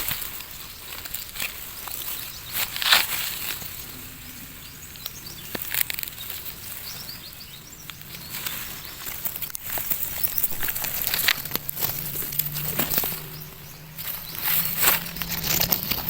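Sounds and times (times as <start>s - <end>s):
outdoor rustling and crackling: 0.0s - 16.0s.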